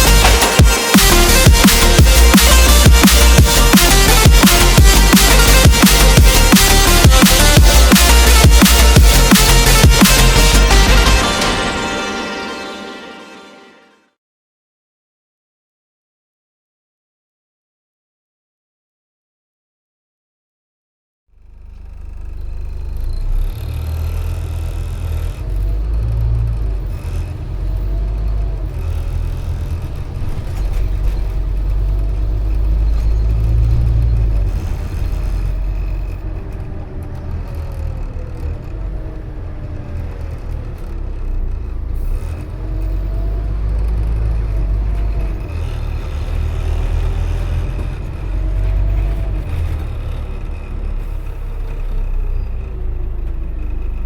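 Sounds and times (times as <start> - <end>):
bus diesel engine rumble: 0.0 - 13.0, 21.4 - 54.0
drivetrain whine: 0.0 - 13.4, 21.4 - 54.0.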